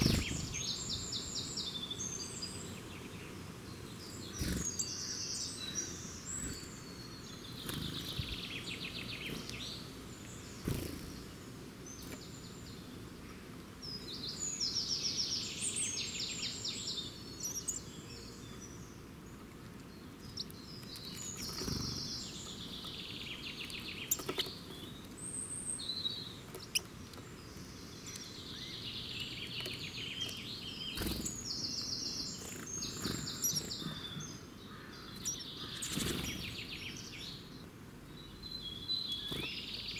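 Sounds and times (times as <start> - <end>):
faint background hiss: 0.0 - 39.9
songbirds trilling: 0.0 - 39.9.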